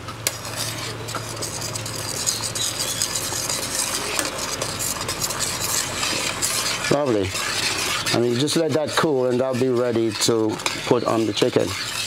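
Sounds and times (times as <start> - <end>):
metal ladle scraping saucepan: 0.3 - 12.0.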